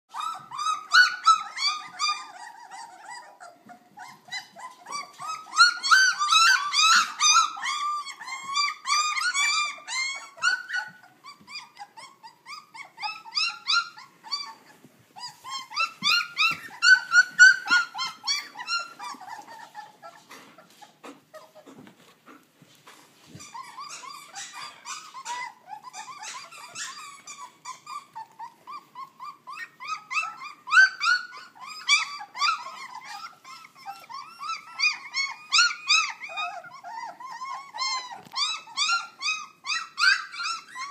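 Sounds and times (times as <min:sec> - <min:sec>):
puppies whining and squealing: 0:00.1 - 0:40.9.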